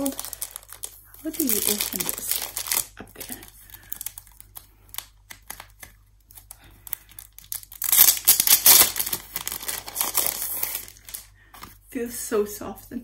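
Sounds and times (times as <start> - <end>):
plastic wrap crinkling: 0.0 - 11.8.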